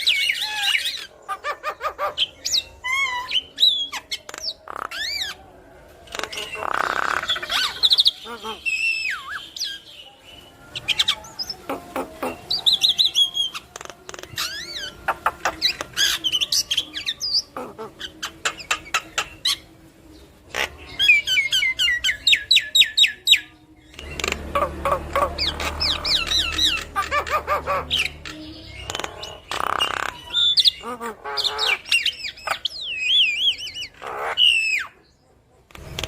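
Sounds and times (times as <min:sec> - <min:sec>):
myna bird singing: 0:00.0 - 0:36.0.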